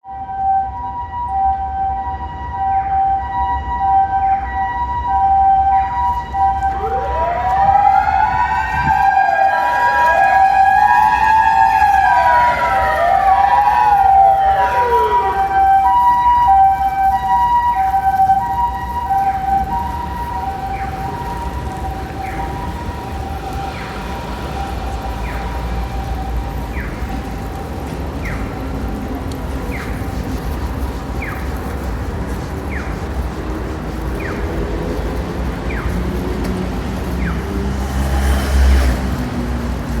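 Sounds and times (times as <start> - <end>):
two-tone ambulance siren: 0.0 - 40.0
wailing siren: 0.0 - 40.0
road traffic rumbling: 0.2 - 40.0
vehicle passing: 5.5 - 40.0.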